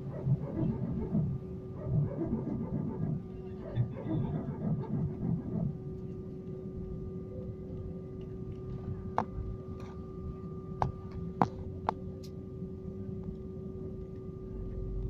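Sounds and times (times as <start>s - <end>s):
airplane cabin hum: 0.0s - 15.0s.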